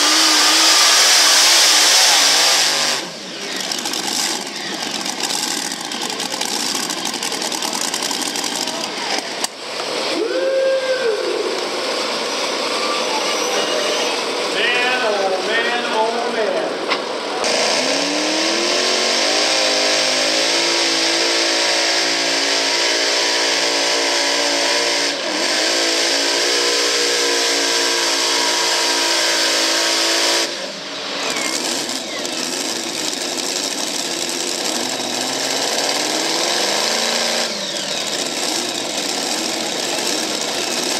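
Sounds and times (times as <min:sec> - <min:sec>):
tractor engine at full throttle: 0:00.0 - 0:40.9.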